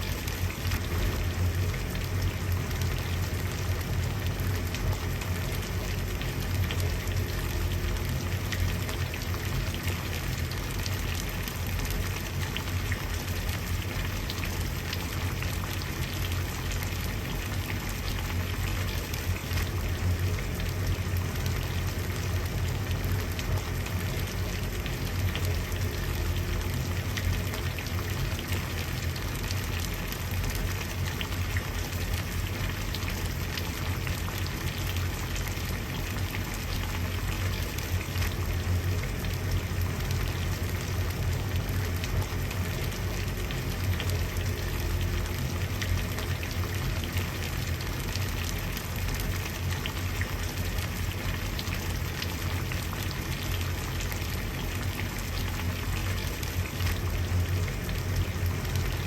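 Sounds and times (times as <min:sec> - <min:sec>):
water boiling and bubbling: 0:00.0 - 0:59.0.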